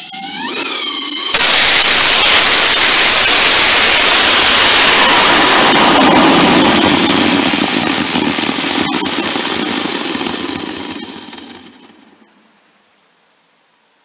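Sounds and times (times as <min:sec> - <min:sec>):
rocket motor exhaust rushing: 0:00.0 - 0:12.3.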